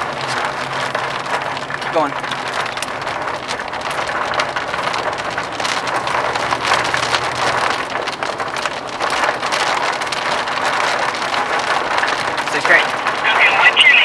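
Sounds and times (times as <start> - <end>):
rain striking a car: 0.0 - 14.0.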